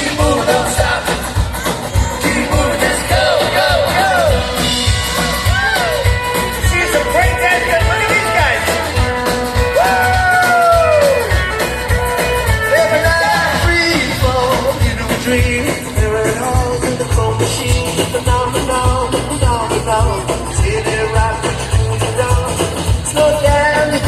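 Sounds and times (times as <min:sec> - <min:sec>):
live rock band playing: 0:00.0 - 0:24.0
steady drum beat: 0:00.0 - 0:24.0.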